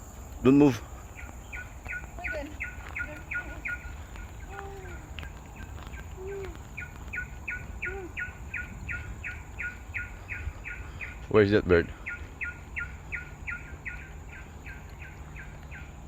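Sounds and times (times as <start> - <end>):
bird calling repeated notes: 1.2 - 16.0.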